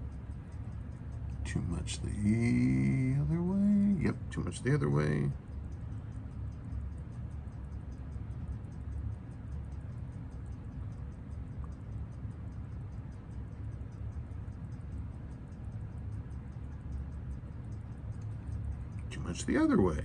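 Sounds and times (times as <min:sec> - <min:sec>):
steady low rumble: 0:00.0 - 0:20.0
watch ticking: 0:00.0 - 0:20.0.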